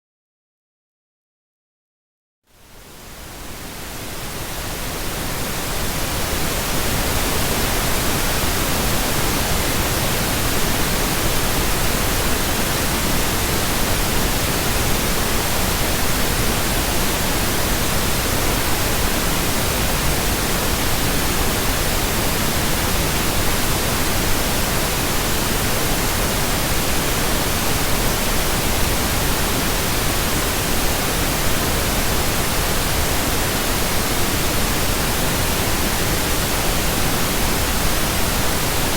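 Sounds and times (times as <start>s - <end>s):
pink noise hiss: 2.5s - 38.9s.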